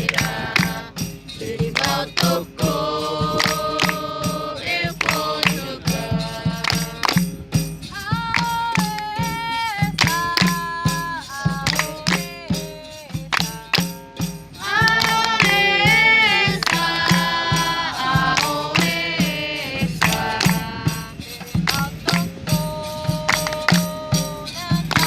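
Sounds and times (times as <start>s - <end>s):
pandeiro beating a rhythm: 0.0s - 25.0s
people singing: 0.0s - 25.0s.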